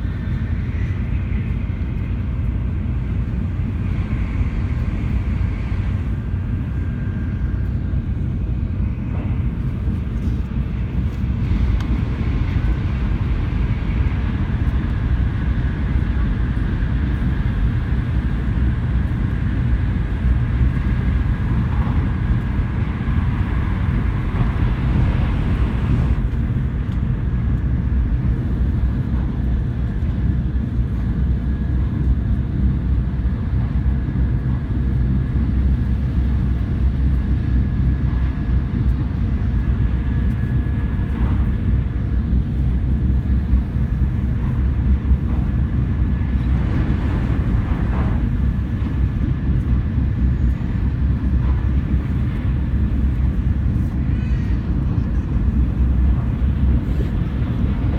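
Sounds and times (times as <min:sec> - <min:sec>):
train low rumble: 0:00.0 - 0:57.9.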